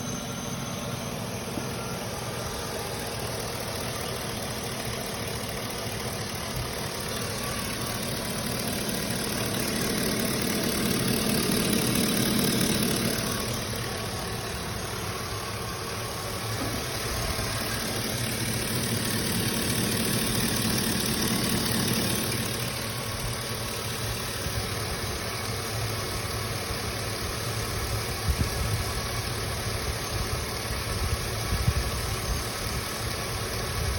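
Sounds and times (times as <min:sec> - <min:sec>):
pickup engine idling: 0:00.0 - 0:33.9.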